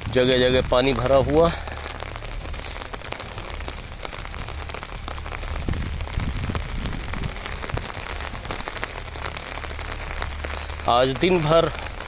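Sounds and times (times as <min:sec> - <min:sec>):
heavy rain on wet road: 0:00.0 - 0:12.0
low rumble: 0:00.0 - 0:12.0.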